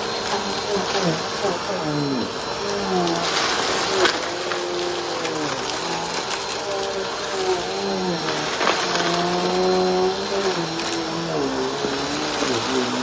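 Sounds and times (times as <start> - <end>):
crumbs ticking into vacuum: 0.0 - 13.0
vacuum cleaner running: 0.0 - 13.0.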